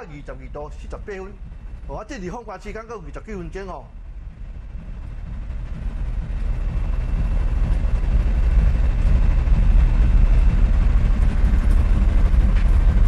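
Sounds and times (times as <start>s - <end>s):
ship rumbling at sea: 0.0s - 13.0s.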